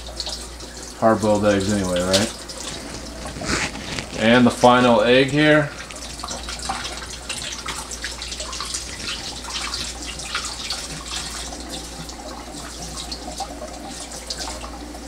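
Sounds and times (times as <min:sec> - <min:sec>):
faucet running into sink: 0:00.0 - 0:15.0.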